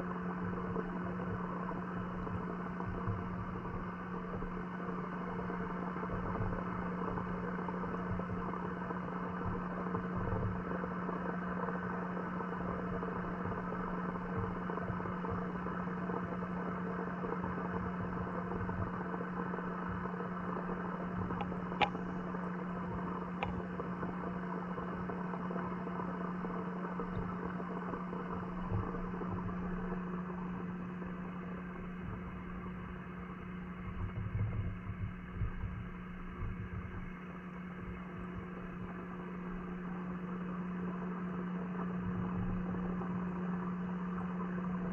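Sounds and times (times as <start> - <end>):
muffled underwater hum and hiss: 0.0 - 44.9.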